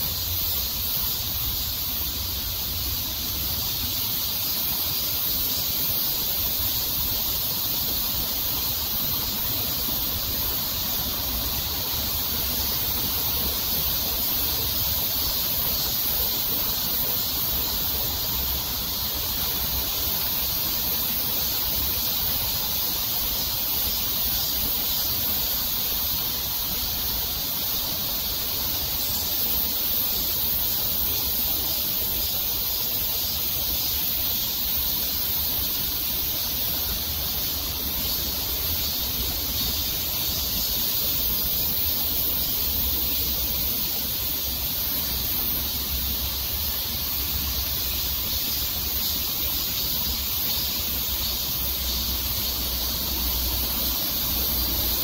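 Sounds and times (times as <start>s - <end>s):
high-pitched outdoor hiss: 0.0s - 55.0s.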